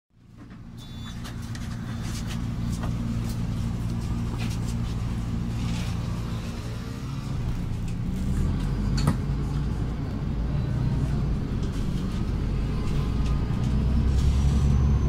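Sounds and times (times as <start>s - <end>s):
bus engine idling: 0.2s - 15.0s.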